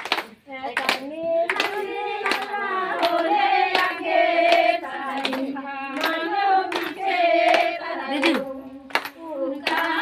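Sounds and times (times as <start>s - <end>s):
hand claps: 0.0s - 10.0s
women singing together: 0.0s - 10.0s.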